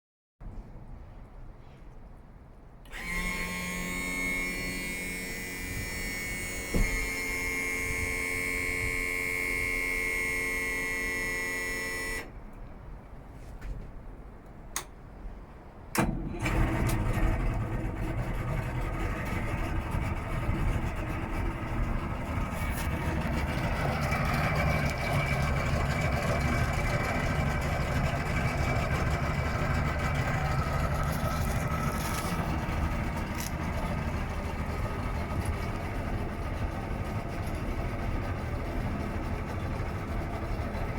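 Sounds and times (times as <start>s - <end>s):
outboard engine idling: 2.9s - 12.2s, 16.2s - 40.9s
trim motor whining: 2.9s - 12.3s, 16.0s - 40.9s.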